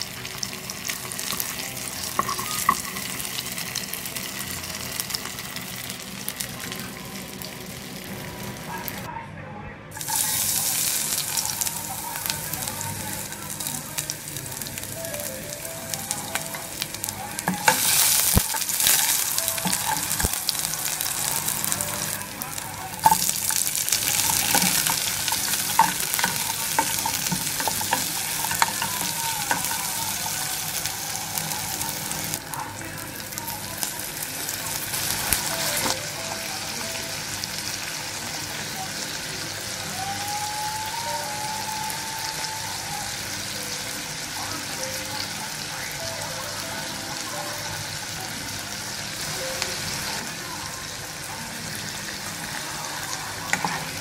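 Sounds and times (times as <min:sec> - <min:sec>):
food sizzling in hot oil: 0:00.0 - 0:09.1, 0:10.0 - 0:54.0.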